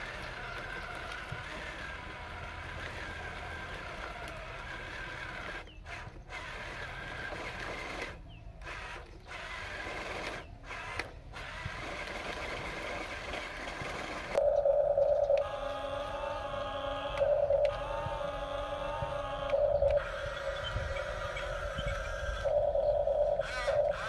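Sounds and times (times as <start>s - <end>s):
toy truck electric motor whirring: 0.0s - 24.0s.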